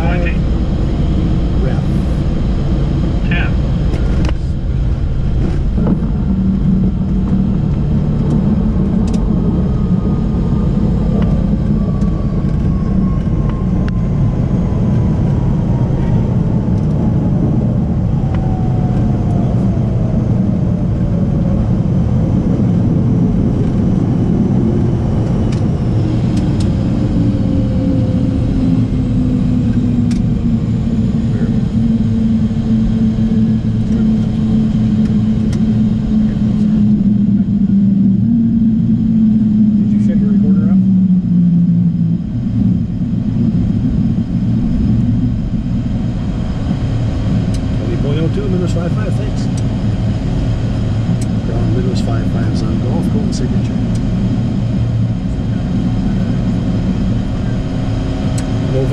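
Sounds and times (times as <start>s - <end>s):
jet turbine whine spooling down: 0.0s - 58.9s
wheels rumbling on runway: 0.0s - 58.9s.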